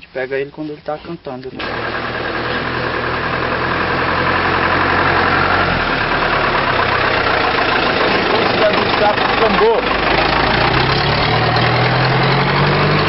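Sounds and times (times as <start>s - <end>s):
jeep engine driving by: 1.6s - 13.0s.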